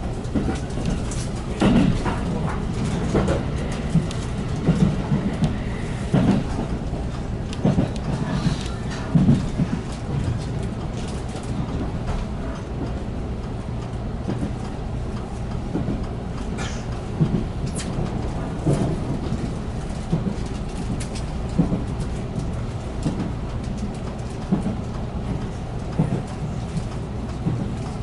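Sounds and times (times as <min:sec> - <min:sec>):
train cabin rumble: 0:00.0 - 0:28.0.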